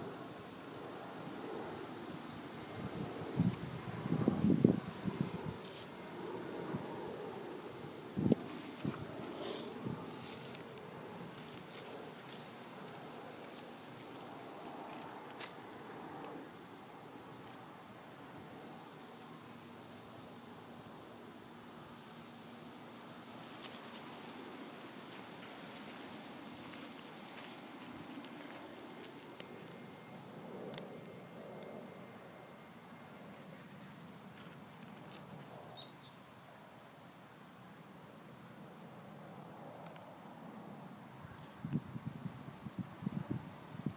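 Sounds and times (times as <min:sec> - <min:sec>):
leaves rustling: 0:00.0 - 0:38.9, 0:39.8 - 0:43.9
outdoor background hiss: 0:00.0 - 0:43.9.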